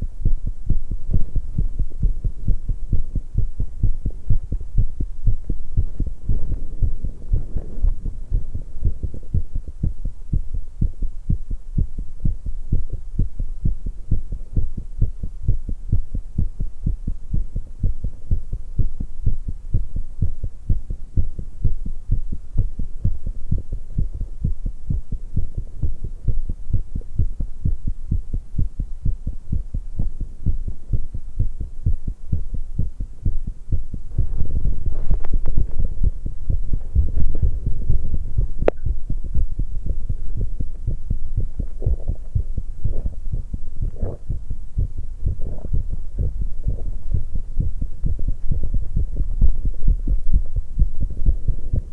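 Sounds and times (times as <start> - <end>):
fast pounding heartbeat: 0.0 - 51.9
low hum: 0.0 - 51.9.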